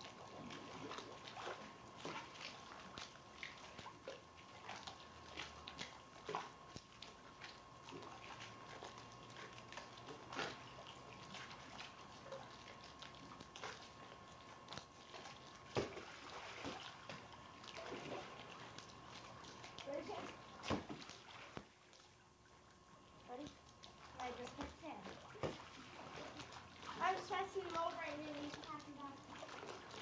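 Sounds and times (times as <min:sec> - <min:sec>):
pool water splashing and lapping: 0:00.0 - 0:30.0.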